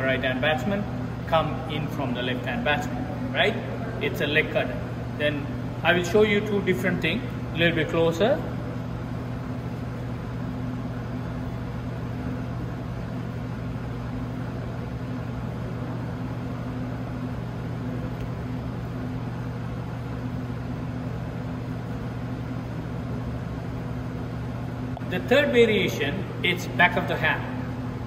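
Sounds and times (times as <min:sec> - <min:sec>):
ventilation hum and air hiss: 0:00.0 - 0:28.0.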